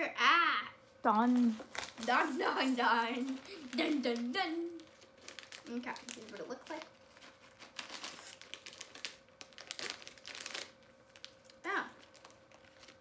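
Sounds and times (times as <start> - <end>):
plastic snack packet crinkling: 1.2 - 13.0.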